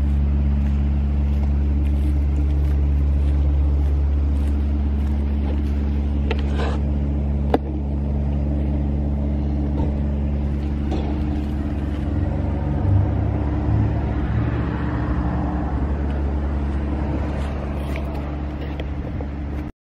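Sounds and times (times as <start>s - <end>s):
vehicle engine idling: 0.0s - 19.7s.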